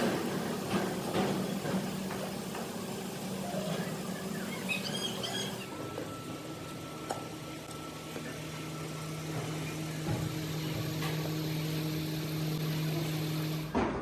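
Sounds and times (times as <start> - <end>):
electric motor humming: 0.0 - 13.8.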